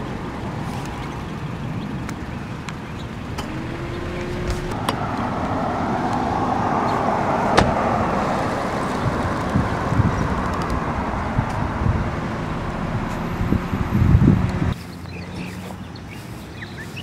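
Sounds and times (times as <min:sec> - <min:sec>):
car passing with tyre noise: 0:03.0 - 0:16.8.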